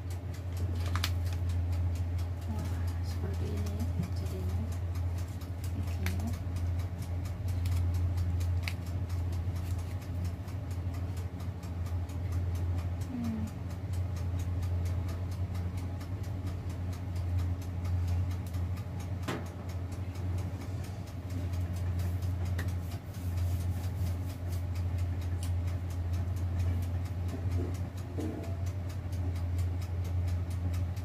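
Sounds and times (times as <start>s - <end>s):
electric oven humming: 0.0s - 31.0s.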